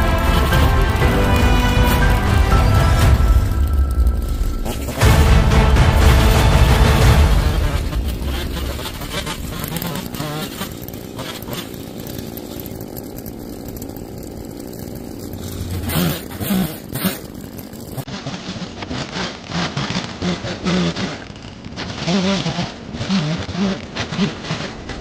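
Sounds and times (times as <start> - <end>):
small engine running: 0.0 - 25.0.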